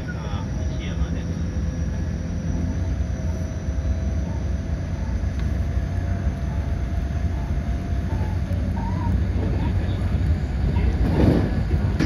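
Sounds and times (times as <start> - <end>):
faint high whine: 0.0 - 11.0
wheels rumbling on rail: 0.0 - 12.0.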